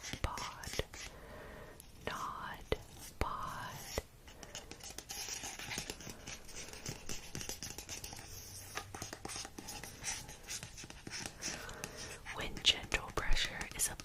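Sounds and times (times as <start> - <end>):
close-up scratching: 0.0 - 1.2, 2.0 - 14.0.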